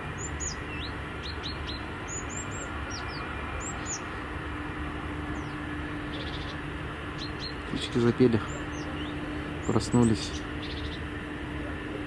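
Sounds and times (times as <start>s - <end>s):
small songbirds calling: 0.0s - 11.6s
low steady background noise: 0.0s - 12.0s.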